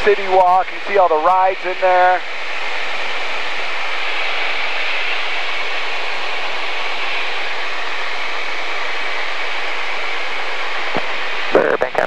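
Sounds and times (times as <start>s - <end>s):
airplane cockpit engine hiss: 0.0s - 11.9s.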